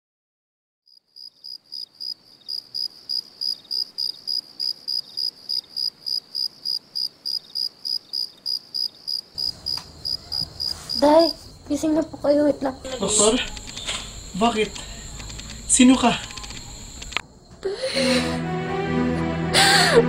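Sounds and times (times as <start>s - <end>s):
cricket chirping: 0.9s - 18.4s.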